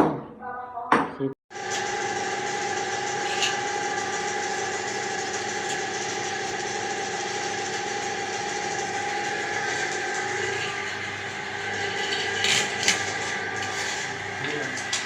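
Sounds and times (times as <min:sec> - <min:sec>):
machine motor whining: 0:01.5 - 0:15.0.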